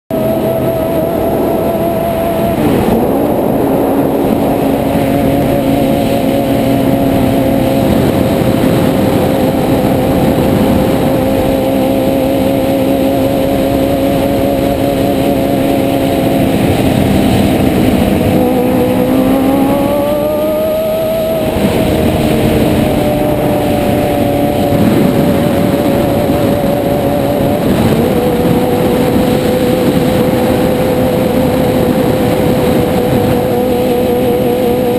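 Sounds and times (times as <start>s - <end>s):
wind and road rush: 0.0s - 34.9s
motorcycle engine running: 0.1s - 34.9s.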